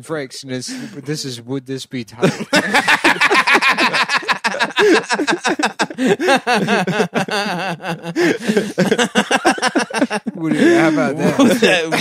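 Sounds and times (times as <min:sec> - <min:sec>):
men laughing loudly: 0:02.2 - 0:12.0.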